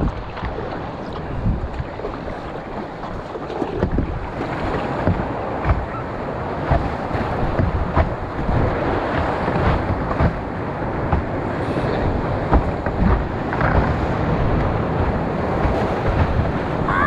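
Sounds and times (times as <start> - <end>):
paddle splashes: 0.0 - 17.0
wind buffeting microphone: 0.0 - 17.0
whitewater rushing: 0.7 - 17.0.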